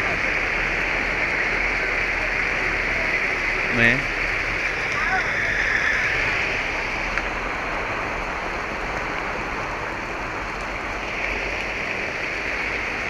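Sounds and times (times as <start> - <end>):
heavy rain downpour: 0.0 - 13.0.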